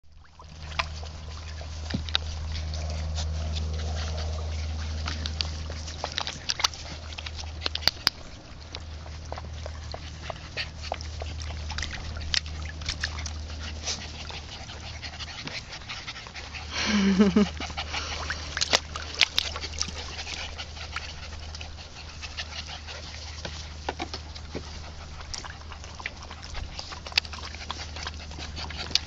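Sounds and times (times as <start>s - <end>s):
puppies splashing in water: 0.0s - 29.0s
steady low hum: 0.1s - 29.0s.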